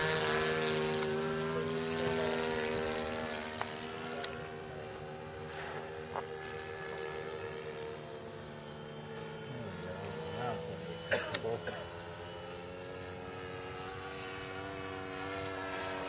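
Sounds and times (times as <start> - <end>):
model plane engine chugging: 0.0 - 16.0.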